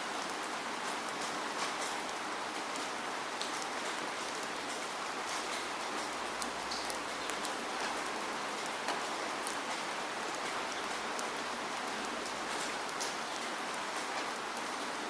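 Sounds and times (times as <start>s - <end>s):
steady rainfall hiss: 0.0s - 15.0s
drops ticking on a surface: 1.0s - 14.4s.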